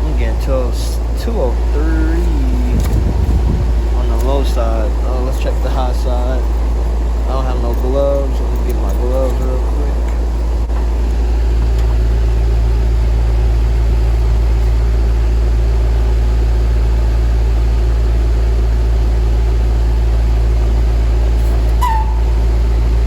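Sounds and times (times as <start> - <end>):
air conditioner unit humming: 0.0 - 23.0.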